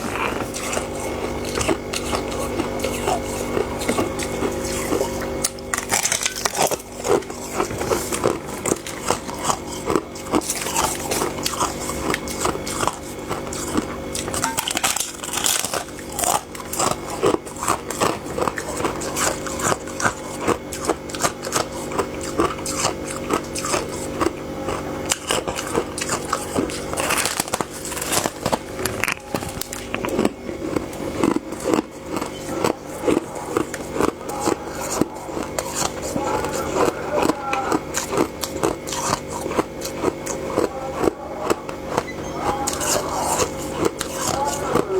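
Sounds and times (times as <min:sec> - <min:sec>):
chewing crunchy frost: 0:00.0 - 0:44.9.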